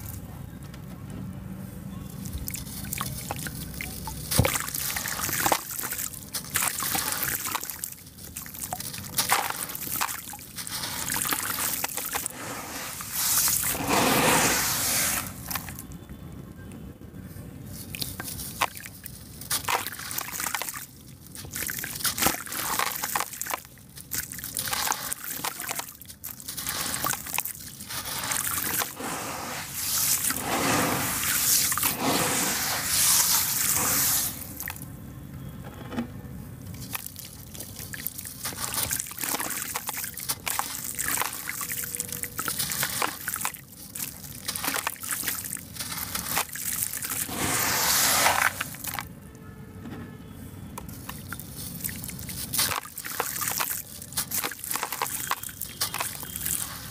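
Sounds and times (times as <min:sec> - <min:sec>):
water sloshing and dripping: 0:02.3 - 0:16.0, 0:17.7 - 0:34.8, 0:36.6 - 0:49.1, 0:50.8 - 0:56.9
wet cement chunks crumbling: 0:02.4 - 0:15.9, 0:17.8 - 0:34.8, 0:36.7 - 0:49.1, 0:50.8 - 0:56.9.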